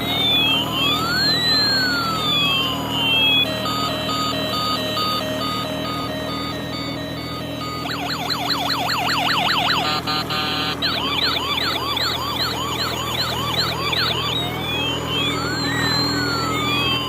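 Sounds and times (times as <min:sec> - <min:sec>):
electronic siren yelping: 0:00.0 - 0:17.0
siren whooping: 0:00.0 - 0:17.0
steady beeping tone: 0:00.0 - 0:17.0.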